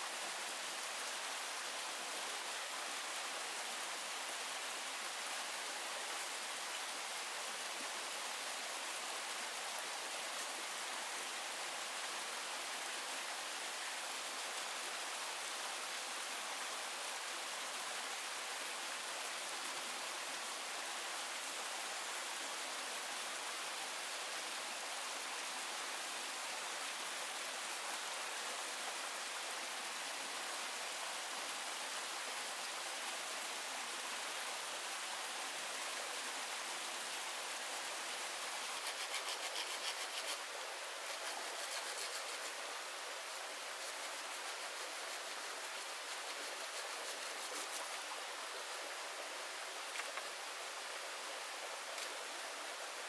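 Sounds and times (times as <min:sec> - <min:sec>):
stream rushing hiss: 0:00.0 - 0:53.0.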